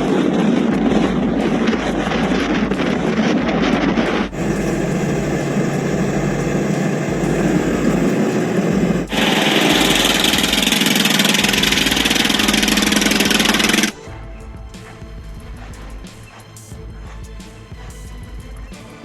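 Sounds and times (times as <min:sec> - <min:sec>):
vehicle engine running: 0:00.0 - 0:18.5.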